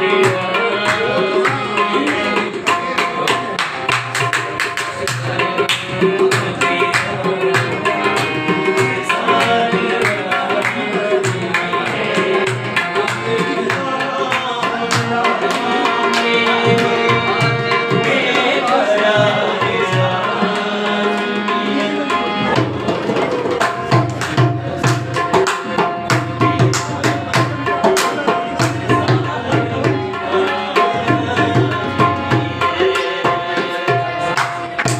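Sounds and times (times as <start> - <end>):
harmonium melody: 0.0 - 34.9
tabla drumming: 0.0 - 34.9.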